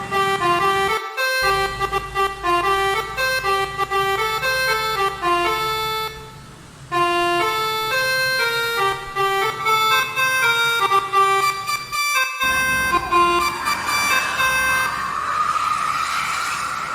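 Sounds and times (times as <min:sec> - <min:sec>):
bus air horn playing melody: 0:00.0 - 0:15.0.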